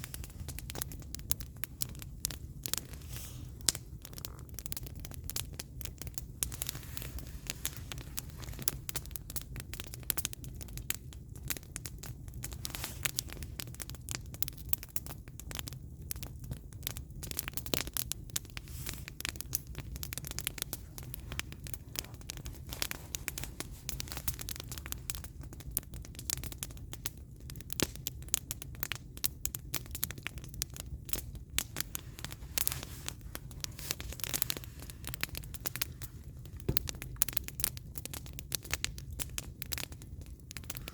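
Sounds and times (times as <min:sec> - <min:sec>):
fire low rumble: 0:00.0 - 0:40.9
firewood crackling and popping: 0:00.0 - 0:40.9.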